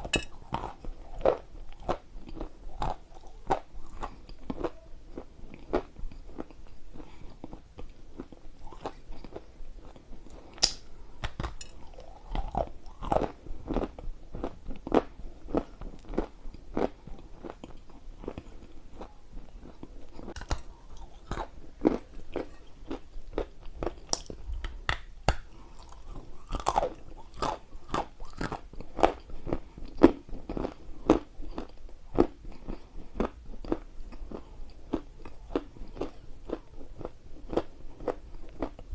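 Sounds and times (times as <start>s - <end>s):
chewing and crunching clay: 0.0s - 38.9s.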